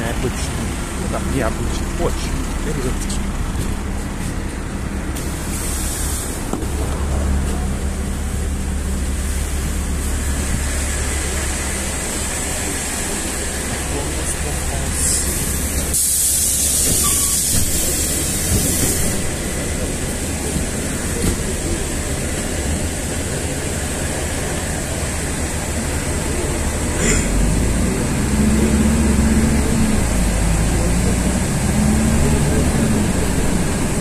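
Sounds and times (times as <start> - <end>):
bus engine rumbling: 0.0 - 34.0
engine whine: 0.0 - 34.0
road noise: 0.0 - 34.0.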